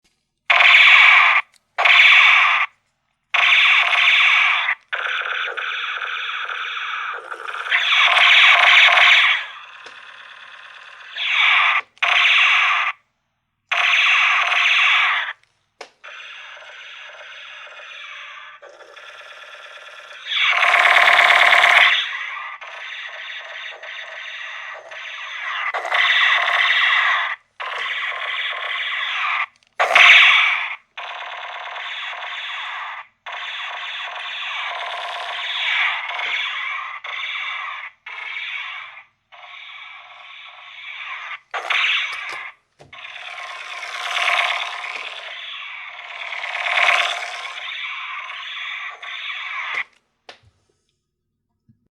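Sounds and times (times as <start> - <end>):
toy gun electronic effects: 0.5 - 2.8, 3.4 - 13.1, 13.7 - 50.0.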